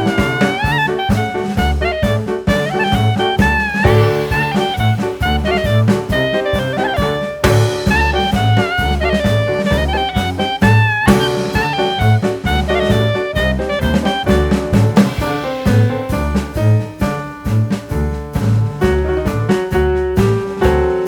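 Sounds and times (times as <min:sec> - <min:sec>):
saxophone: 0:00.0 - 0:17.0
brass: 0:00.0 - 0:21.0
drum beat: 0:00.0 - 0:21.0
walking bass: 0:00.0 - 0:21.0.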